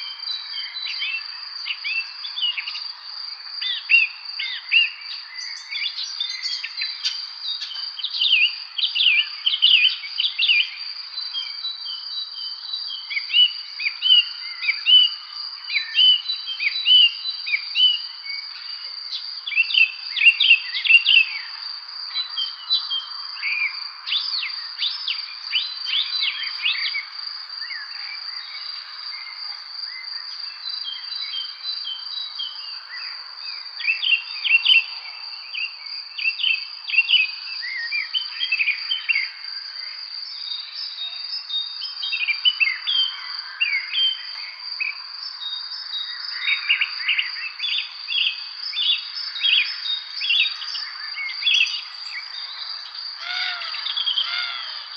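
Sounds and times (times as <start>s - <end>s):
high-pitched insect trill: 0.0s - 54.9s
songbirds chirping and trilling: 0.0s - 54.9s.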